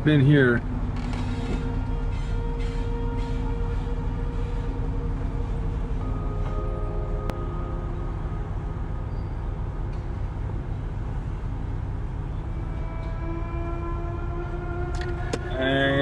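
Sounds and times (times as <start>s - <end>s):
drawn-out whining tones: 0.0s - 16.0s
engine low rumble: 0.0s - 16.0s.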